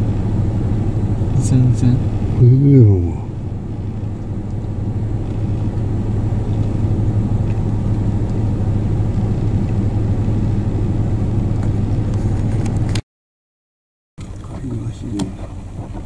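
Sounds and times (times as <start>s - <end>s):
vehicle engine idling: 0.0s - 13.0s, 14.2s - 16.0s.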